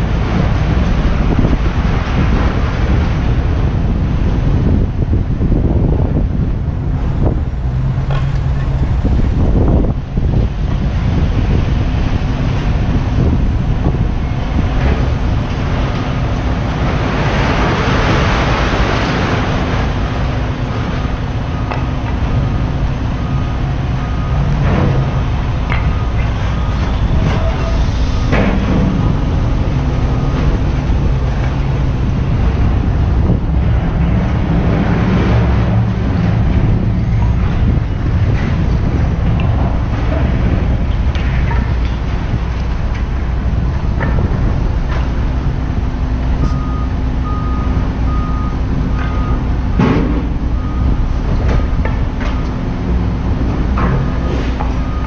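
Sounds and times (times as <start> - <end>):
diesel truck engine running: 0.0 - 55.0
wind on microphone: 0.0 - 55.0.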